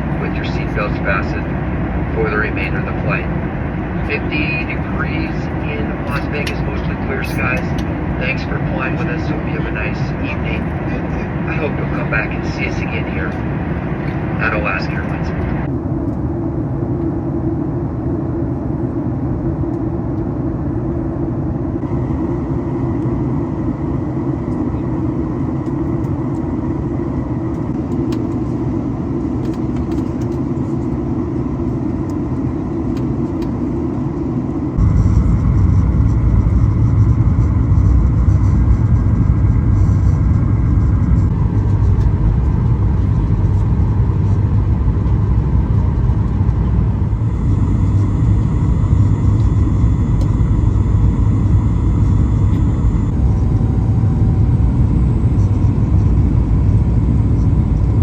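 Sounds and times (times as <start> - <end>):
airplane cabin engine roar: 0.0 - 58.0.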